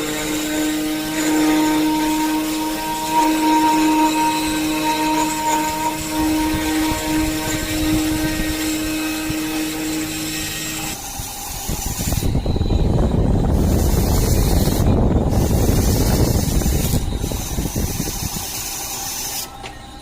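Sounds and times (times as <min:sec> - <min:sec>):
low rumbling noise: 0:00.6 - 0:18.5.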